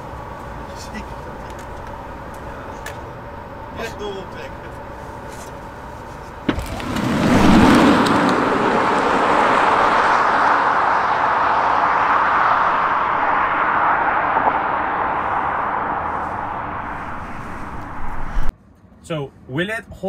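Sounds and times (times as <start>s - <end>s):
car tyre and road noise: 0.0s - 20.0s.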